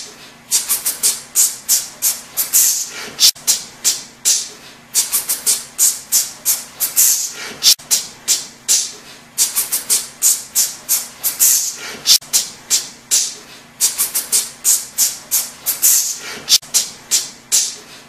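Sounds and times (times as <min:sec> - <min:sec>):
shaker rhythmic hissing hits: 0:00.0 - 0:18.0.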